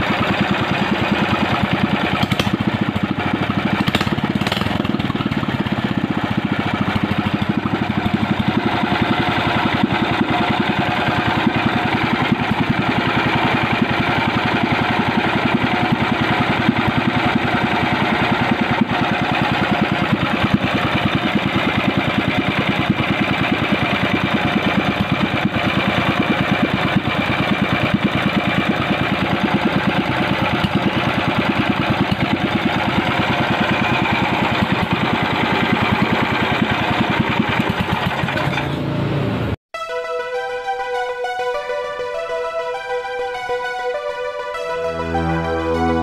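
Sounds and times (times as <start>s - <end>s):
small engine idling: 0.0s - 39.6s.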